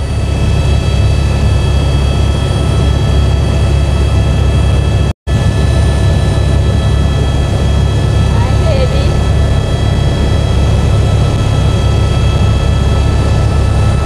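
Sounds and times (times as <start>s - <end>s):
helicopter engine and rotor: 0.0s - 14.0s.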